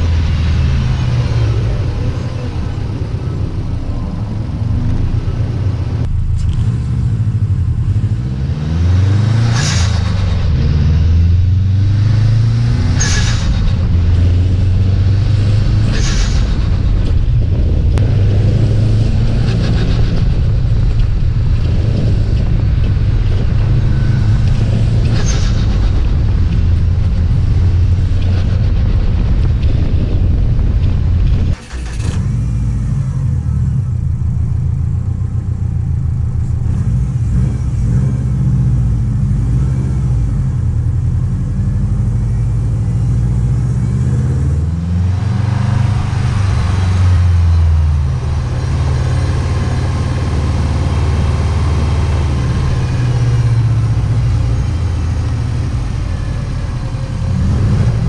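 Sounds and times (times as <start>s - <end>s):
car engine rumble while driving: 0.0s - 58.0s.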